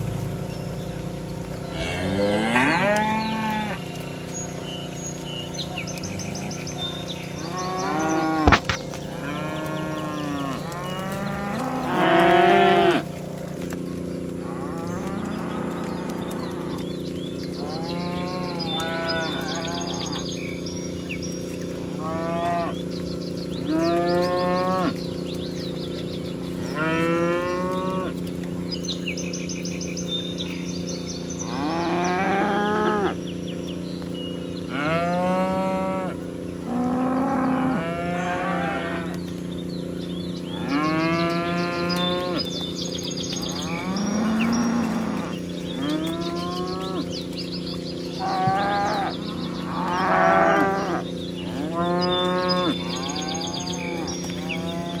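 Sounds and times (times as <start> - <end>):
cattle mooing: 0.0 - 4.8, 5.7 - 20.8, 21.8 - 23.0, 23.6 - 25.1, 26.6 - 28.3, 31.4 - 33.2, 34.7 - 39.4, 40.4 - 55.0.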